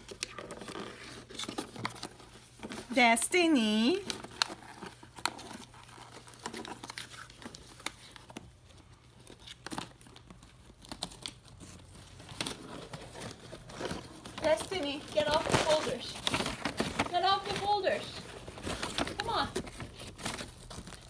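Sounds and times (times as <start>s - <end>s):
parrot tearing paper: 0.0s - 21.0s.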